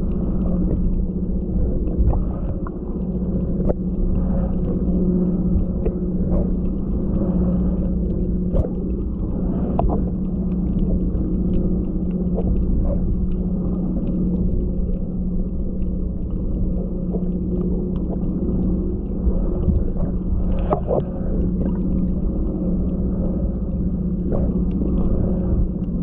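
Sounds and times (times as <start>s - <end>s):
faint clicks and taps: 0.0s - 26.0s
motor humming: 0.0s - 26.0s.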